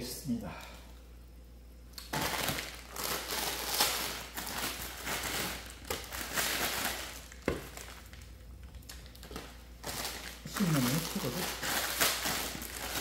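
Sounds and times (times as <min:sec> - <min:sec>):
plastic packet crinkling: 0:02.0 - 0:13.0.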